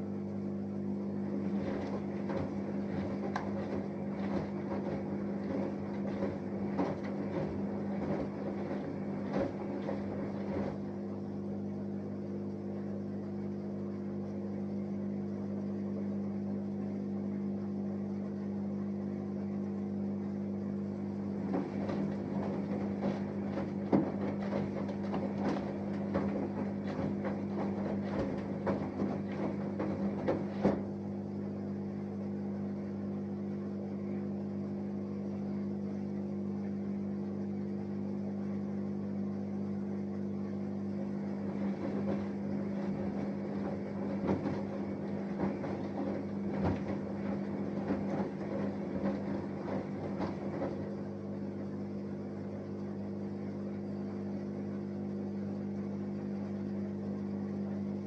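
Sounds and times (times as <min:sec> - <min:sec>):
washing machine hum: 0:00.0 - 0:58.0
water sloshing and clattering in drum: 0:00.0 - 0:58.0.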